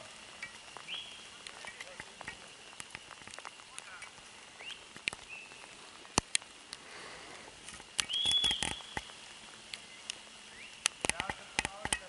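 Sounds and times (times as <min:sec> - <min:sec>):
twigs cracking underfoot: 0:00.0 - 0:06.9, 0:07.5 - 0:12.0.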